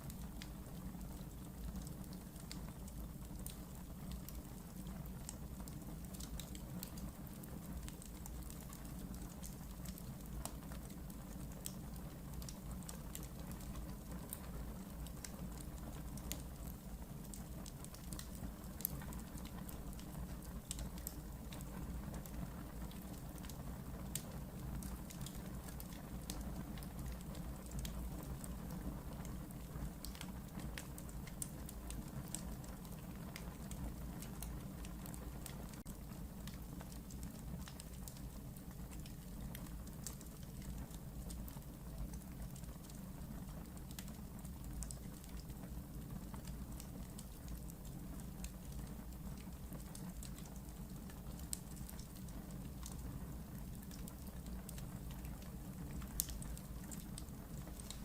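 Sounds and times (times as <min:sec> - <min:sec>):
fire crackles and pops: 0:00.0 - 0:58.0
wood fire burning: 0:00.0 - 0:58.0.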